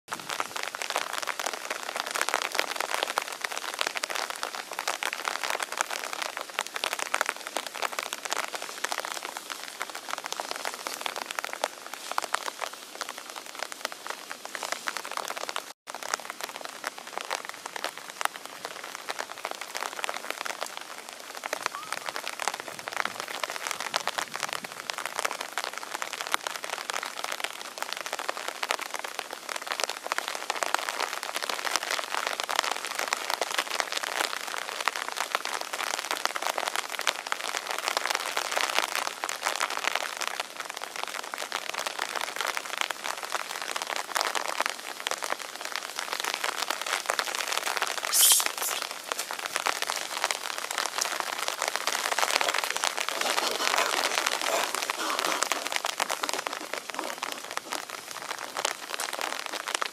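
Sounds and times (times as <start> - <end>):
rain on tree foliage: 0.1 - 59.9.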